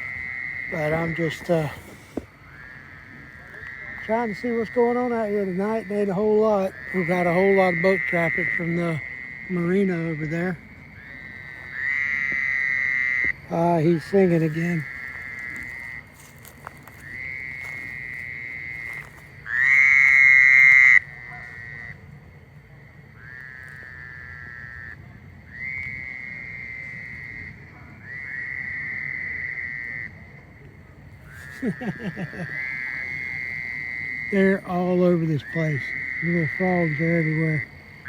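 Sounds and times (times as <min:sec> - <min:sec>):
frogs trilling: 0:00.0 - 0:38.0.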